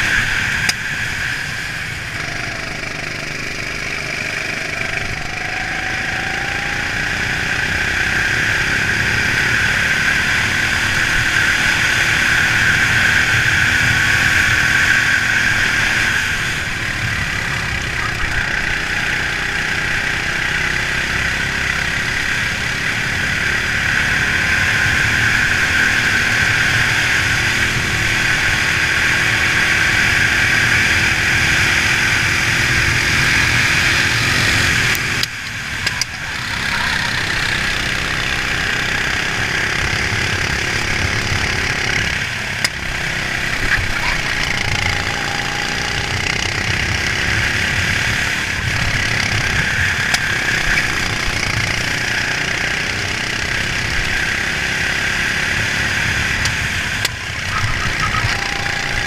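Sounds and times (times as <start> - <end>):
racing kart engine running: 0.0 - 59.0.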